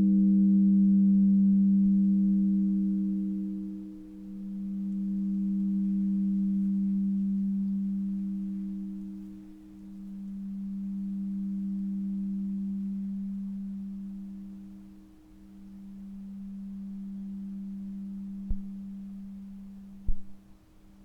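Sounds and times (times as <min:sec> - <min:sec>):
low pure tone: 0:00.0 - 0:21.0.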